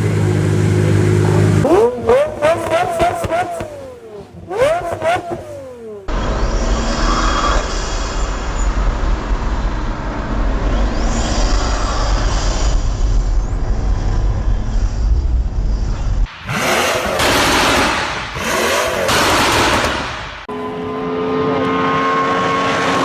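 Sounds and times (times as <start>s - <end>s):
car exhaust rumbling and revving: 0.0s - 23.0s.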